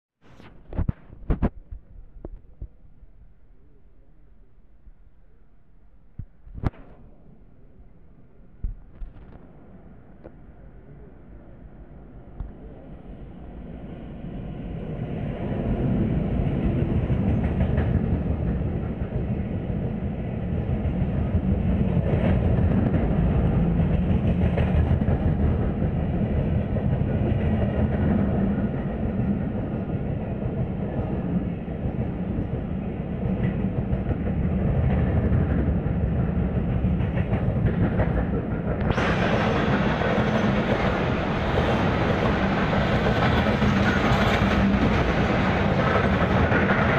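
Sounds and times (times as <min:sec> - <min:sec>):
train rumbling past: 0:06.8 - 0:46.9.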